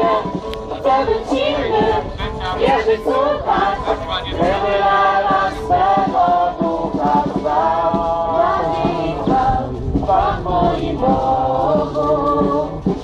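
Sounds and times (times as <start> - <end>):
crowd singing a hymn: 0.0 - 13.0.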